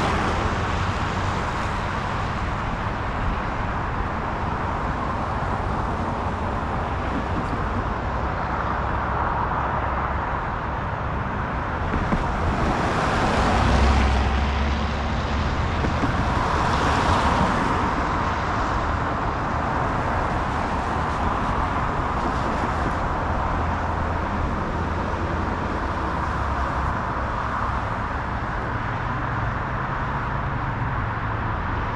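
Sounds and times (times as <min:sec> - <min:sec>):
cars passing close by: 0:00.0 - 0:31.9
steady traffic hum: 0:00.0 - 0:31.9.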